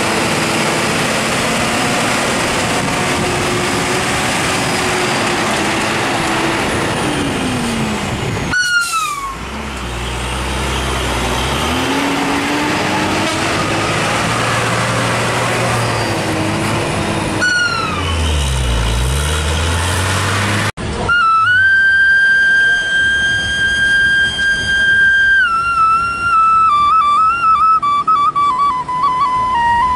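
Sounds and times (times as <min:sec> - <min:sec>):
diesel truck engine labouring: 0:00.0 - 0:29.9.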